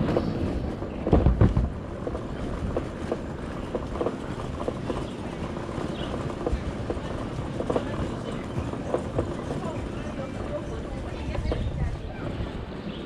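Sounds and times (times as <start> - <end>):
road and traffic noise: 0.0 - 13.0
wind buffeting microphone: 0.0 - 13.0.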